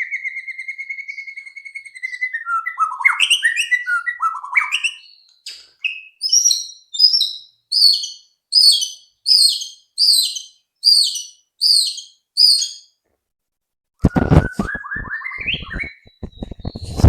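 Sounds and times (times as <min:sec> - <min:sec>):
bird whistled song: 0:00.0 - 0:12.9, 0:14.0 - 0:17.0.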